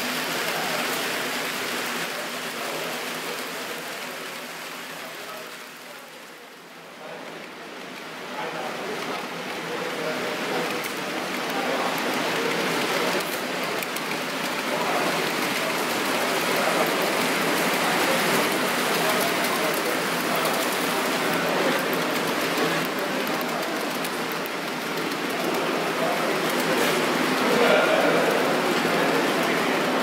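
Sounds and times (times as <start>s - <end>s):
model train wheels rolling on rail: 0.0s - 30.0s.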